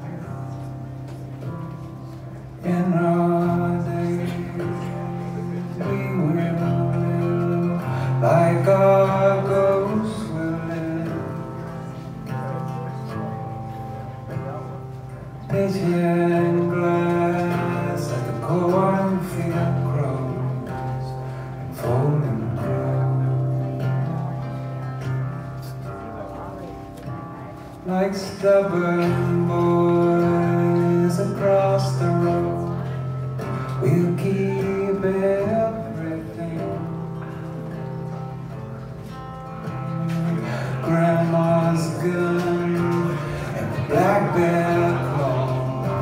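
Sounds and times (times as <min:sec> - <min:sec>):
acoustic guitar: 0:00.0 - 0:46.0
man singing: 0:02.4 - 0:13.7, 0:14.3 - 0:24.6, 0:27.8 - 0:38.3, 0:39.7 - 0:46.0.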